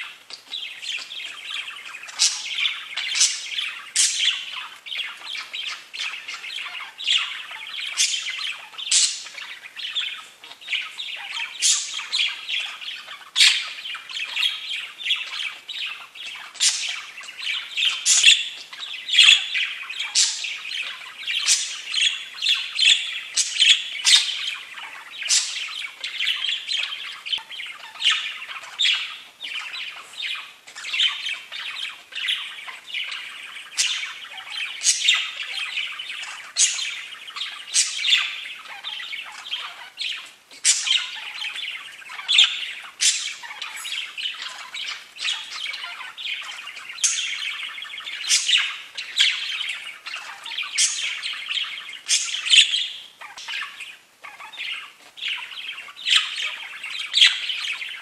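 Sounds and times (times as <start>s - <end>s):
budgerigars warbling and chattering: 0.0s - 58.0s
sharp bird chirps and squawks: 0.0s - 58.0s.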